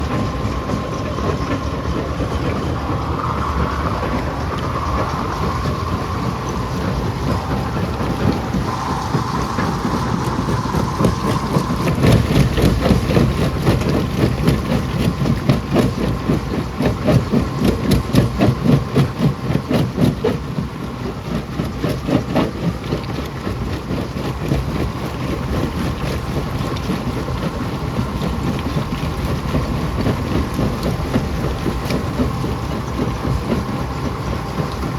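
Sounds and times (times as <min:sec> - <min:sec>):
heavy machinery rumbling: 0:00.0 - 0:34.9
machine whine: 0:00.0 - 0:34.9.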